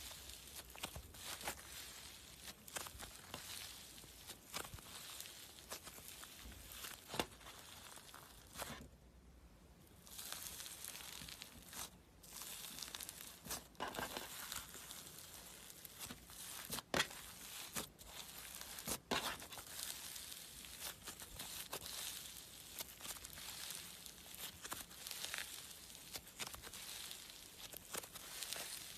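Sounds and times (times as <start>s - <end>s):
slime crackling and popping: 0.0s - 8.9s, 9.9s - 28.9s.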